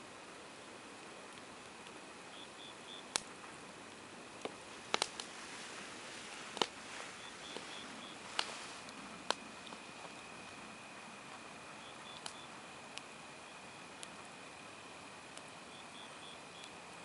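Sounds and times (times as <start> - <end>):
campfire crackling and popping: 0.3 - 17.0
hiss of burning: 0.3 - 17.0.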